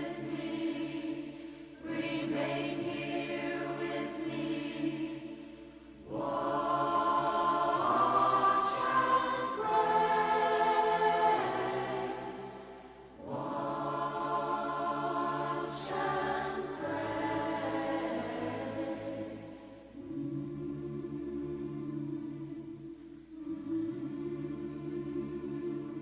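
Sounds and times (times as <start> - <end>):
choir-like wailing voices: 0.0 - 26.0.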